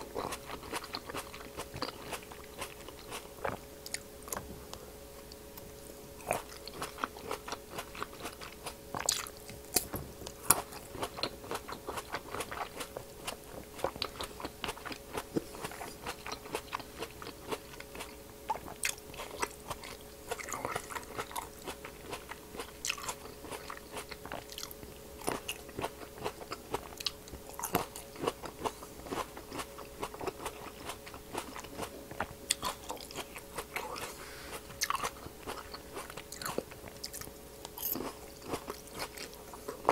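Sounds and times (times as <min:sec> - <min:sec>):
crunchy grape chewing: 0:00.0 - 0:39.9
faint steady hum: 0:00.0 - 0:39.9.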